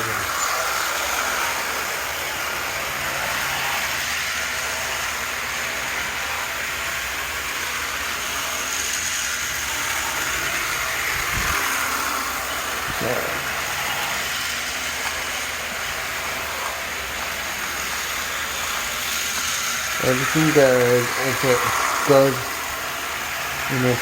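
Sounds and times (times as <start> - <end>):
model train motors whirring: 0.0 - 24.0.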